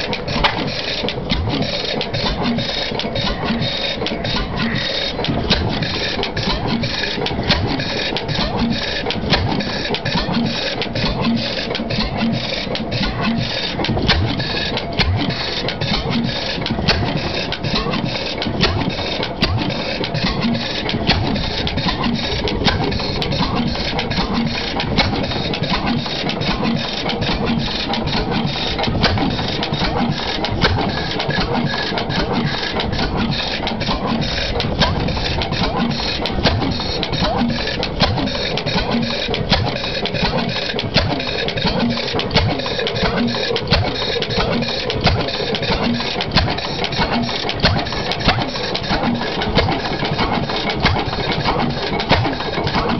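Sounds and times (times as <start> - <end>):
stationary engine clattering: 0.0 - 52.9.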